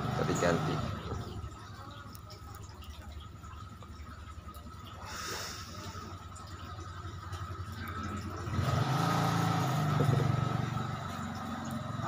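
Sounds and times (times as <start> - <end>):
street background rumble: 0.0 - 12.0
vehicle engine running: 0.0 - 12.0.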